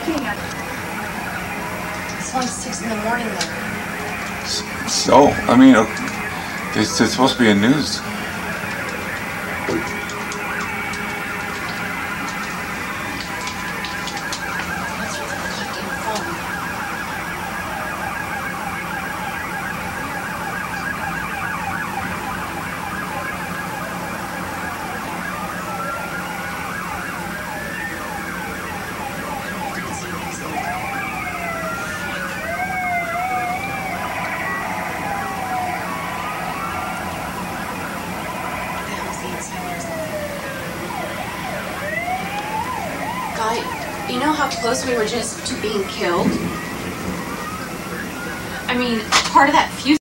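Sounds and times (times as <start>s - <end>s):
emergency vehicle sirens: 0.0s - 50.0s.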